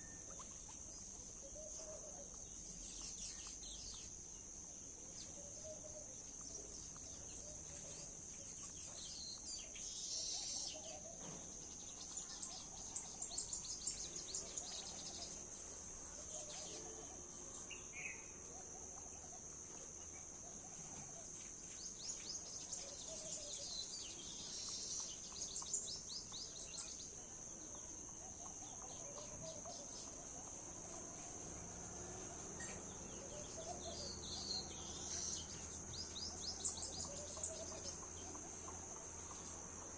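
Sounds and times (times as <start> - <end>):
insect drone: 0.0 - 39.9
small birds chirping: 0.0 - 39.9.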